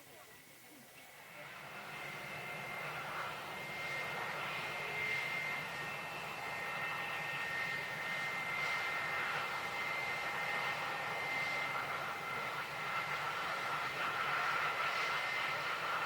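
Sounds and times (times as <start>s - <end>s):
jet engines whining: 1.1s - 16.0s.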